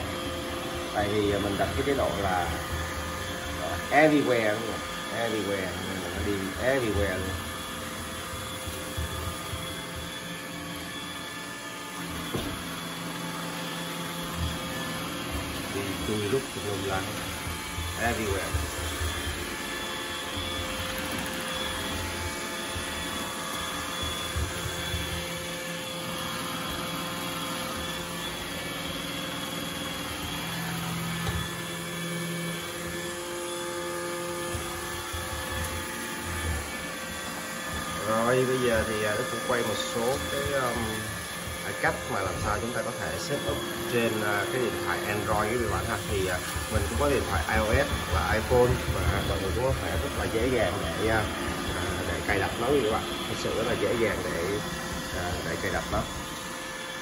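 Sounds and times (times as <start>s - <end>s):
robot vacuum motors humming: 0.0s - 57.0s.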